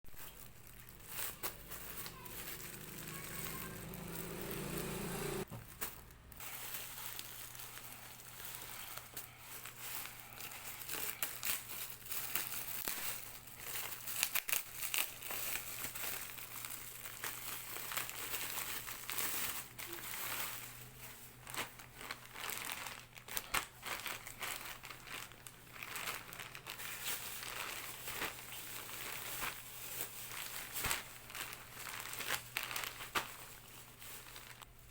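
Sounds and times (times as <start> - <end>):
packaging crinkling and rustling: 0.1 - 4.8, 5.4 - 34.9.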